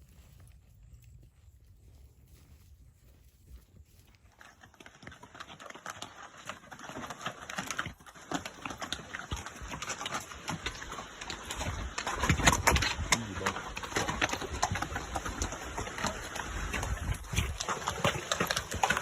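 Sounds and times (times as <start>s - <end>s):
horse hoofbeats clip-clop: 0.0s - 19.0s.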